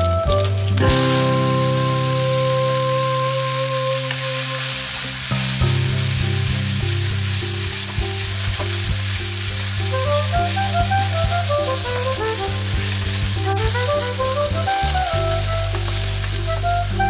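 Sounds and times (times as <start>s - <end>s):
background music: 0.0s - 17.0s
vegetables sizzling in oil: 0.3s - 17.0s.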